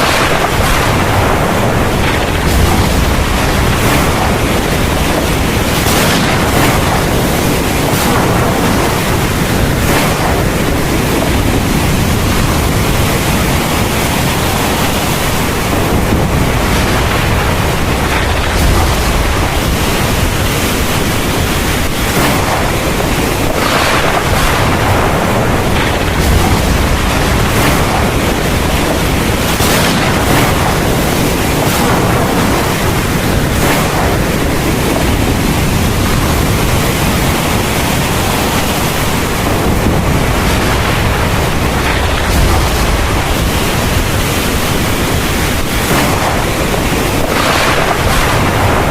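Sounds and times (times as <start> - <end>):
heavy rain downpour: 0.0 - 48.9.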